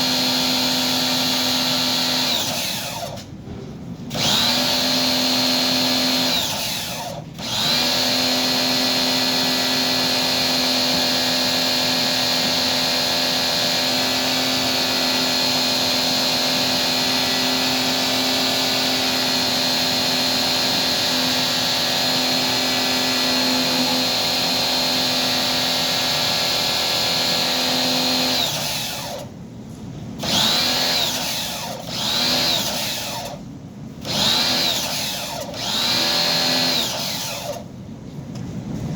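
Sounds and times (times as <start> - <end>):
small electric motor whining: 0.0 - 3.2, 4.1 - 29.3, 30.2 - 33.4, 34.0 - 37.6.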